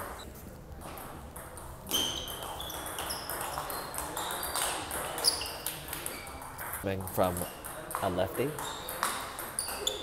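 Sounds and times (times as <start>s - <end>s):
table tennis ball hits: 0.8s - 10.0s.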